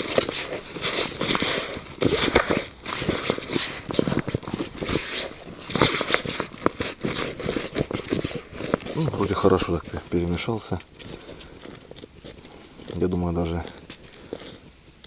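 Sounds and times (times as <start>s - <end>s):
dry bait stirred crunching: 0.0s - 14.6s.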